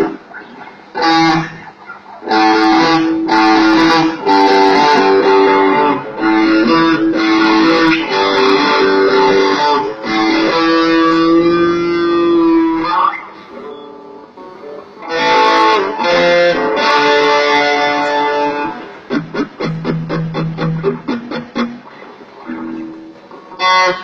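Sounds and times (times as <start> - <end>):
electric guitar chords: 0.0 - 24.0.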